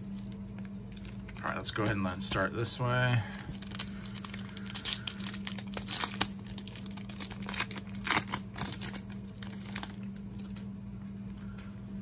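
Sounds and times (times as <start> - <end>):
card pack wrapper crinkling: 0.0 - 2.5, 3.1 - 11.4.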